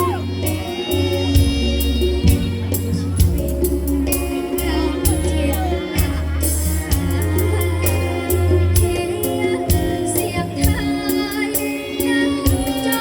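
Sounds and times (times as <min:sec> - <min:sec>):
music with steady beat and bass: 0:00.0 - 0:13.0.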